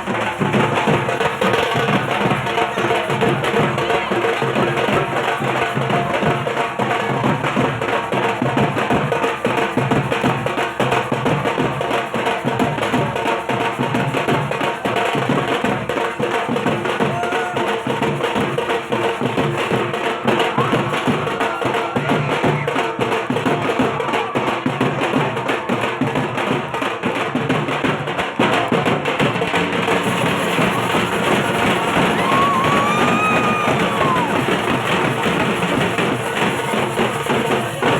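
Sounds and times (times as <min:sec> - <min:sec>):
barrel drum beaten with sticks: 0:00.0 - 0:37.9.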